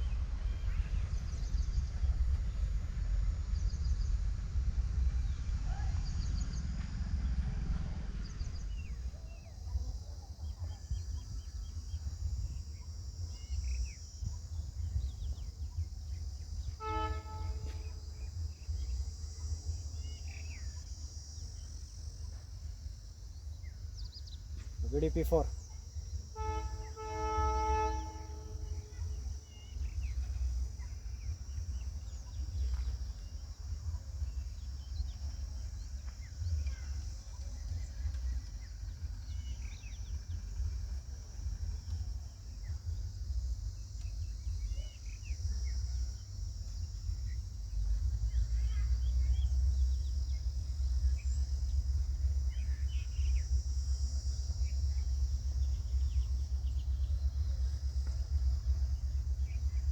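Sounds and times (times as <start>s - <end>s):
low rumble: 0.0s - 59.9s
high insect buzz: 9.2s - 59.9s.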